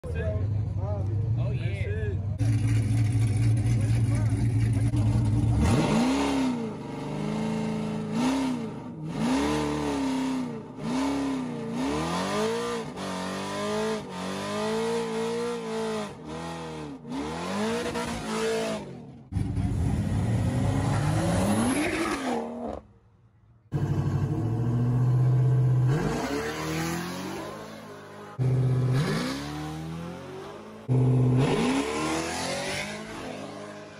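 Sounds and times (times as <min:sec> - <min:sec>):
car engine revving: 0:02.4 - 0:22.9, 0:23.7 - 0:33.9.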